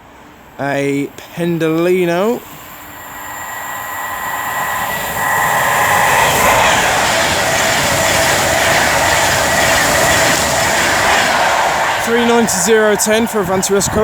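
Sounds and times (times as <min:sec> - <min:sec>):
wheels rushing on rail: 0:00.0 - 0:14.0
thin whining tones: 0:00.2 - 0:14.0.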